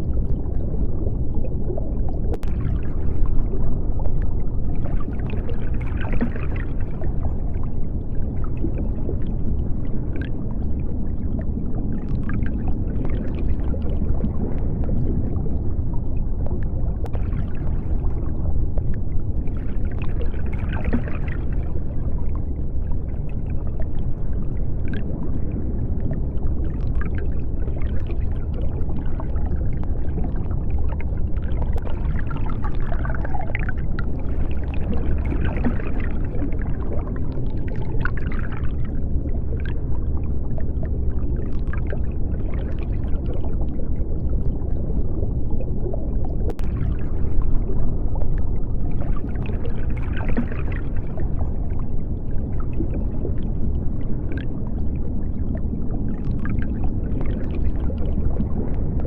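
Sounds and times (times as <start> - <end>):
deep underwater rumble: 0.0 - 59.0
water bubbling and gurgling: 0.0 - 59.0.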